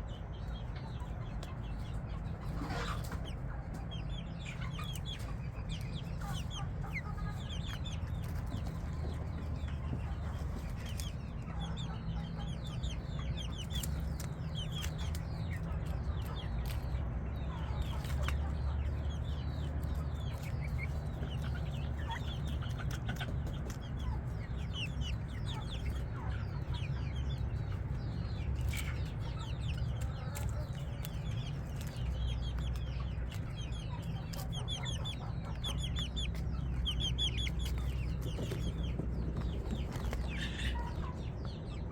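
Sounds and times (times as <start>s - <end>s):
chickens clucking: 0.0s - 41.9s
steady low rumble: 0.0s - 41.9s.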